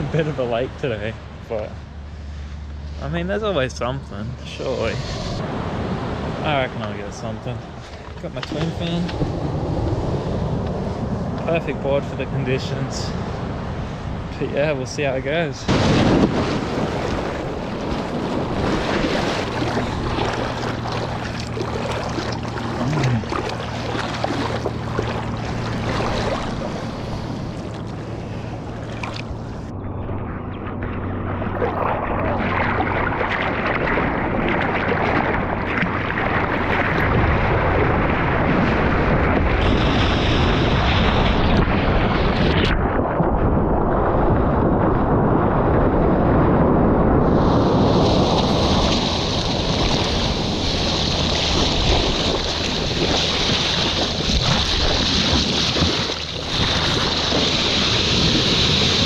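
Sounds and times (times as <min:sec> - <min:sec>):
seawater rushing and splashing: 0:00.0 - 0:59.0
wind on microphone: 0:04.6 - 0:59.0.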